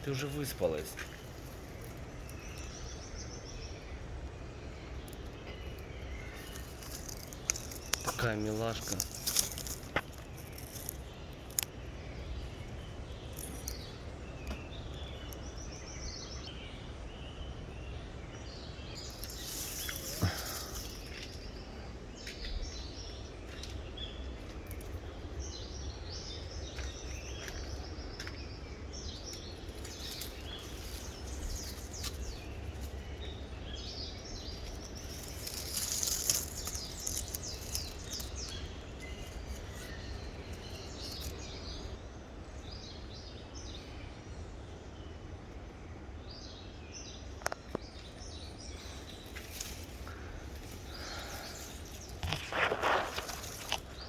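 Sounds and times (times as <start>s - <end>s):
insects chirping: 0.0s - 42.0s, 47.4s - 54.0s
birds chirping: 0.0s - 54.0s
low background noise: 0.0s - 54.0s.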